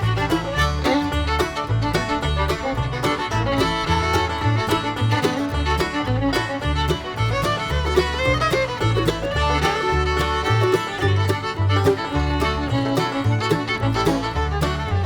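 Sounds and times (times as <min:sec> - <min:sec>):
banjo: 0:00.0 - 0:15.0
bass line: 0:00.0 - 0:15.0
fiddle: 0:00.0 - 0:15.0.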